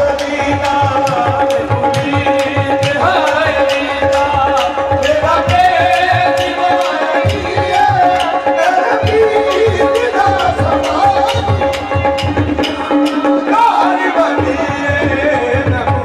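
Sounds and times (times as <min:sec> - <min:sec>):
held accompaniment notes: 0:00.0 - 0:16.0
man singing: 0:00.0 - 0:16.0
tabla rhythm: 0:00.0 - 0:16.0.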